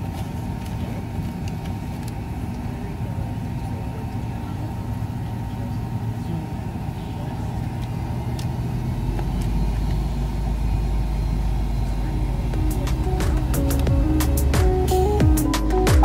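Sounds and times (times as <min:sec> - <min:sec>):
airliner engines rumbling in cabin: 0:00.0 - 0:16.0.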